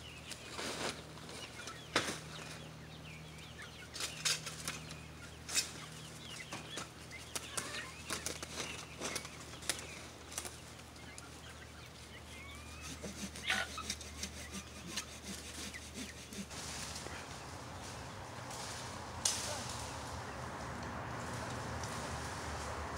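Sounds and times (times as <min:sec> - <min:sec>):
chickens clucking: 0:00.0 - 0:22.9.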